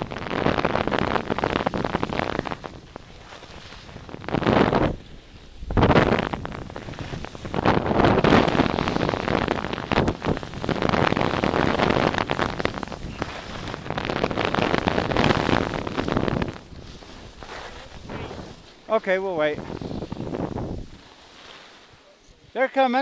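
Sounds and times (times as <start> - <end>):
wind rushing over microphone: 0.0 - 22.4
skis hissing across snow: 0.3 - 23.0.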